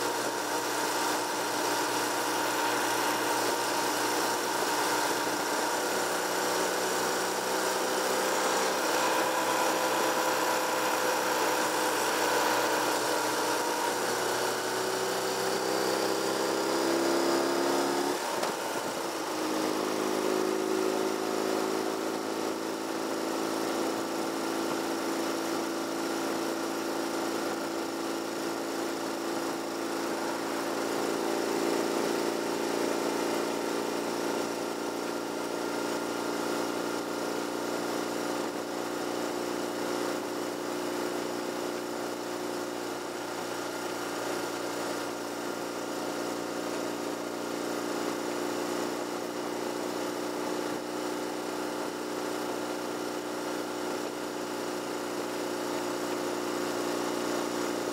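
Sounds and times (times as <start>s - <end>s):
car engine: 0.0s - 57.9s.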